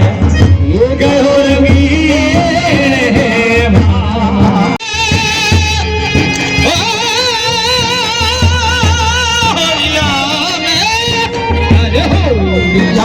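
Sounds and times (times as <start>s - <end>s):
steady low drum beat: 0.0s - 13.0s.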